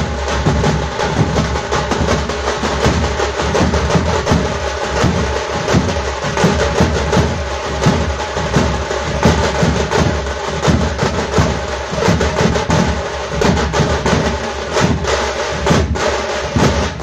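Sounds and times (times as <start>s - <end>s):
drum troupe playing fast strokes: 0.0s - 17.0s.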